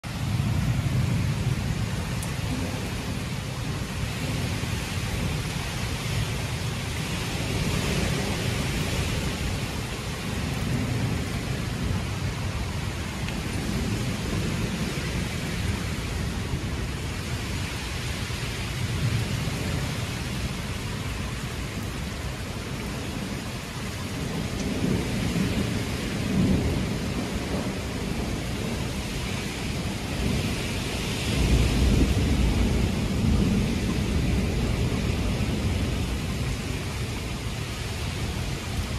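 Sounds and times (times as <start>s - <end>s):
heavy rain: 0.0s - 38.9s
thunder rumbles: 0.0s - 38.9s.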